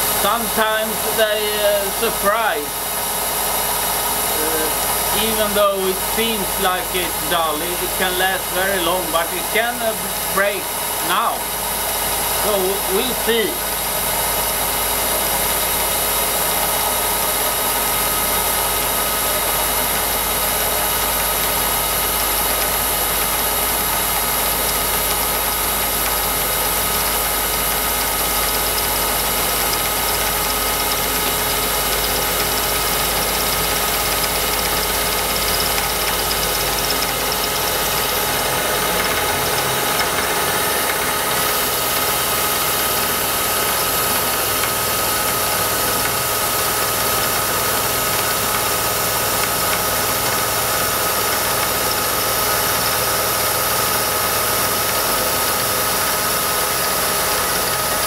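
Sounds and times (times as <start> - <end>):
milling machine cutting steel: 0.0 - 58.0.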